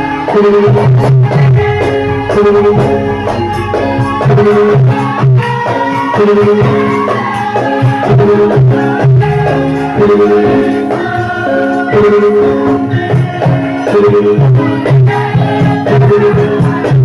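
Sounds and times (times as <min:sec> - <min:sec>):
held pitched notes: 0:00.0 - 0:16.8
drum strokes: 0:00.0 - 0:17.0
shaker-like percussion: 0:00.0 - 0:17.0.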